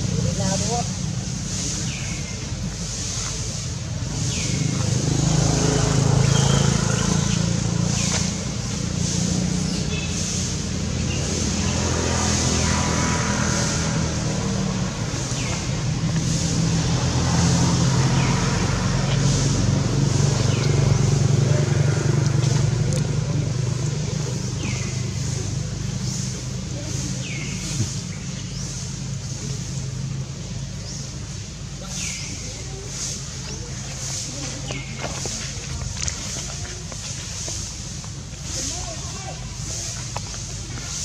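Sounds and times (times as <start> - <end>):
vehicle engines humming: 0.0 - 41.0.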